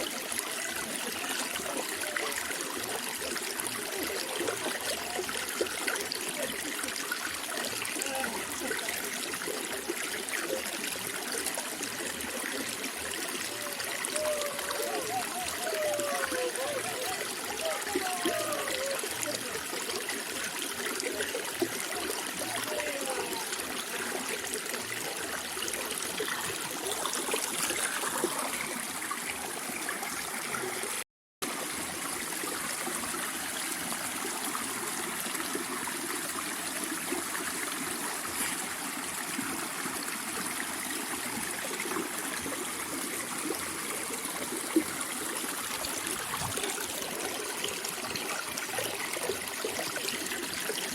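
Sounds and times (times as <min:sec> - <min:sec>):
stream trickling and splashing: 0:00.0 - 0:50.9.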